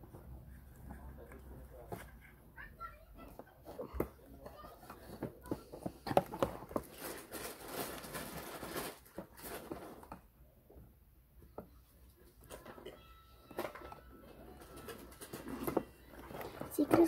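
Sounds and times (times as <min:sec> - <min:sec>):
rustling: 0:00.1 - 0:10.3, 0:12.1 - 0:17.0.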